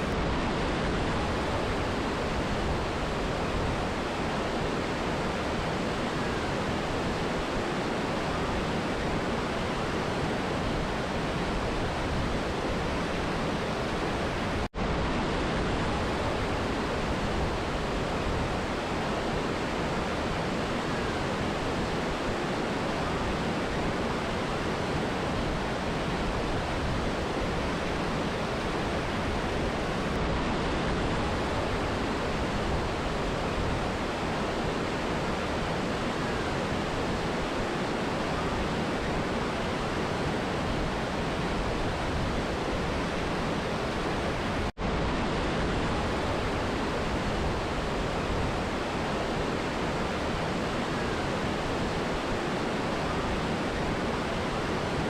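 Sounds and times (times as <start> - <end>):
river and waterfall rushing: 0.0 - 55.0.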